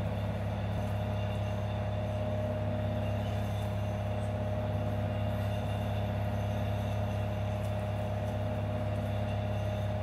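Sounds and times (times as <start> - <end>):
low mechanical hum with whine: 0.0 - 10.0.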